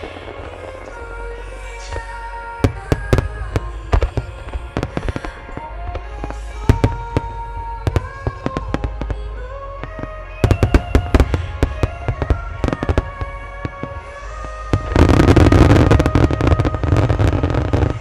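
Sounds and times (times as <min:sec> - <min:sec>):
music with long held notes: 0:00.0 - 0:18.0.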